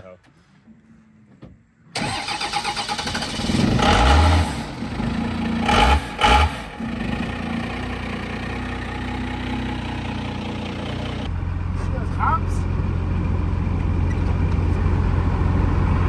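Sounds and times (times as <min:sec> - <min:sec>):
diesel engine revving and idling: 0:02.0 - 0:16.0.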